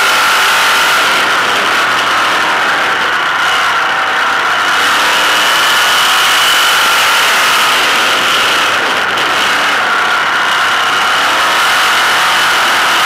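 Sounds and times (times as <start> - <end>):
race car engine high-pitched: 0.0 - 13.0.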